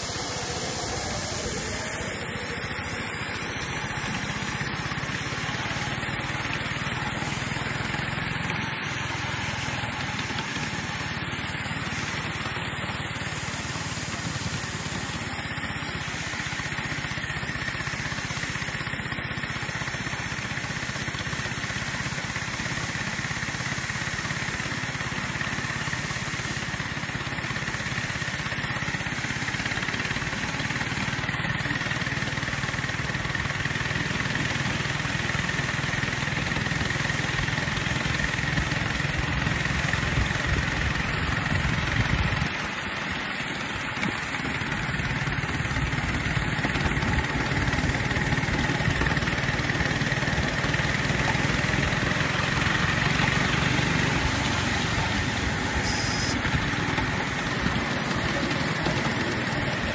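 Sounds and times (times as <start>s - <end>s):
steam train rumble and hiss: 0.0s - 59.9s.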